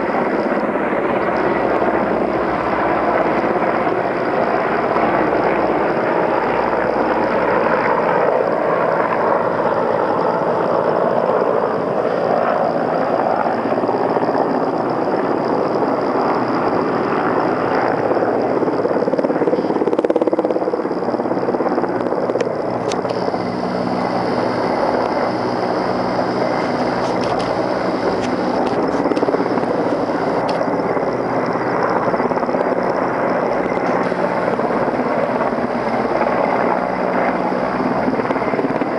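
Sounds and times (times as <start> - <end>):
helicopters flying overhead: 0.0 - 38.9.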